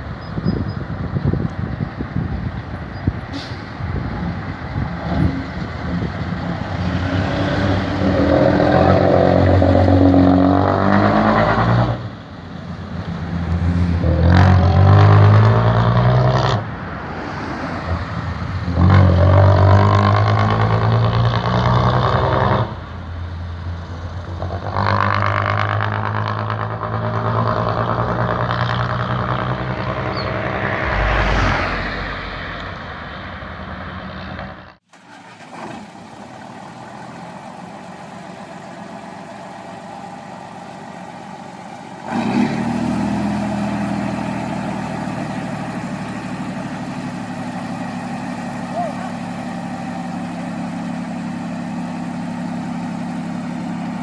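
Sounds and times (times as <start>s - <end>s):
diesel truck engine accelerating: 0.0s - 54.0s.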